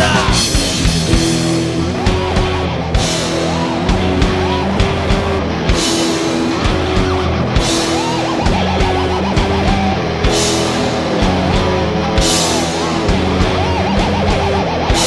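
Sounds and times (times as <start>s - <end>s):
drum hits and cymbal crashes: 0.0s - 15.0s
heavy metal band playing live: 0.0s - 15.0s
lead guitar line: 0.0s - 15.0s.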